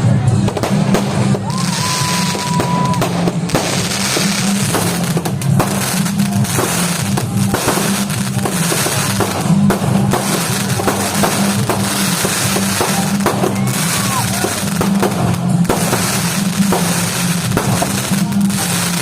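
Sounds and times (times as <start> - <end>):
fireworks cracking and popping: 0.0 - 19.0
music with heavy bass beat: 0.0 - 19.0.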